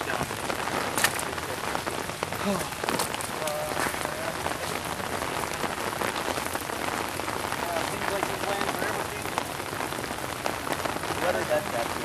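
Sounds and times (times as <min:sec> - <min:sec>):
close raindrops ticking: 0:00.0 - 0:12.0
steady rain falling: 0:00.0 - 0:12.0.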